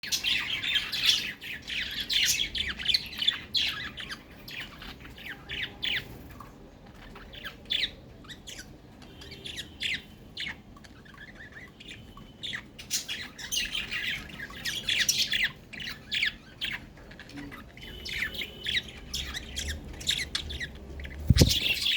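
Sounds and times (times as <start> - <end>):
budgerigars chirping and squawking: 0.0 - 21.9.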